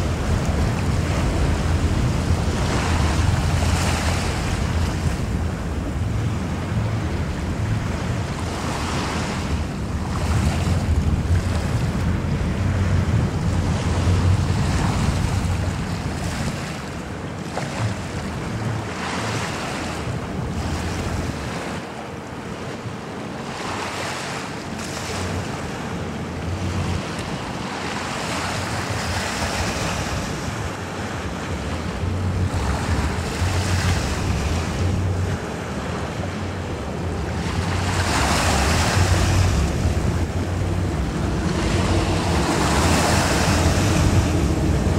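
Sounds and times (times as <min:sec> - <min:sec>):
wind buffeting microphone: 0:00.0 - 0:23.3, 0:24.6 - 0:44.9.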